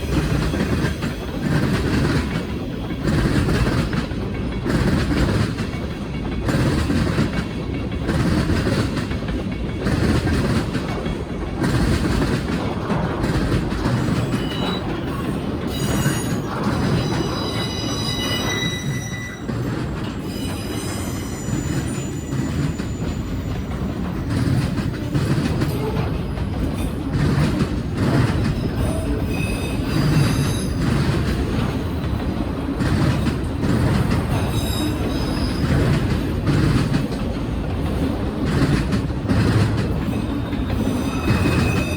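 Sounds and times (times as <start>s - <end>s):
train wheel squeals: 0.0s - 37.2s, 37.9s - 41.9s
freight train rolling past: 0.0s - 41.9s
wheels clacking over rail joints: 0.0s - 41.9s.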